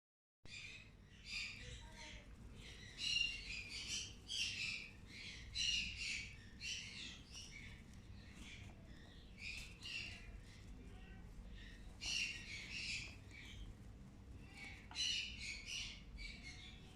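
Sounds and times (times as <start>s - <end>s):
parrot chicks squawking: 0.5s - 16.9s.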